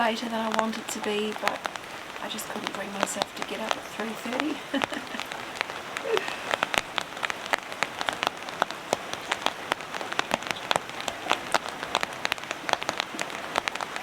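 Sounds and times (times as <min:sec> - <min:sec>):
faint steady rain hiss: 0:00.0 - 0:14.0
rain drops striking hard surfaces: 0:00.0 - 0:14.0.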